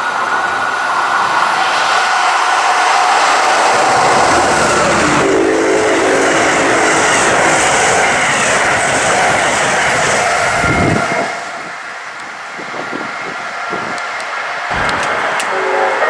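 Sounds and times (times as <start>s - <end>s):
locomotive humming tone: 0.0s - 16.0s
train wheels on rail: 0.0s - 16.0s.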